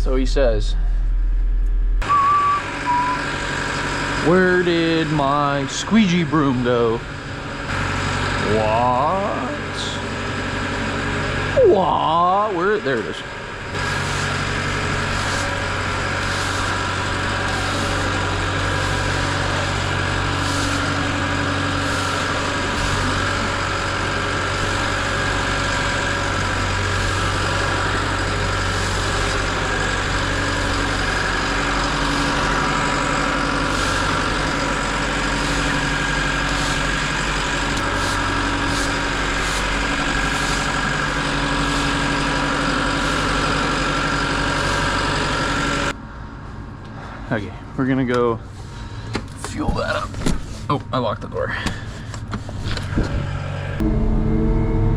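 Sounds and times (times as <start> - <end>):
constant high hum: 0.0 - 54.9
diesel engine idling: 0.0 - 54.9.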